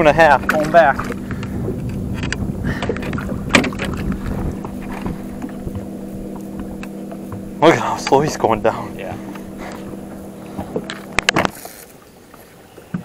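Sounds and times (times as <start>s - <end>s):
wind noise: 0.0s - 11.7s
low hum: 0.0s - 12.0s
water: 0.0s - 13.0s.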